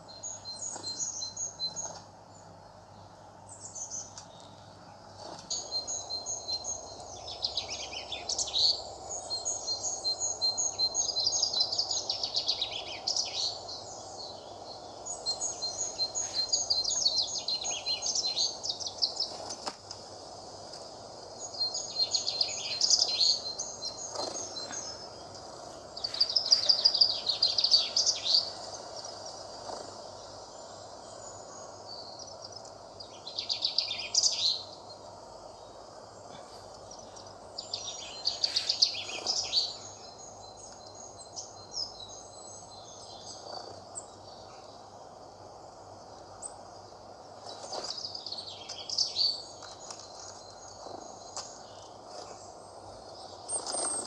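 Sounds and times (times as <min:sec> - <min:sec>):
small bird singing: 0:00.0 - 0:54.0
steady background hiss: 0:00.0 - 0:54.0.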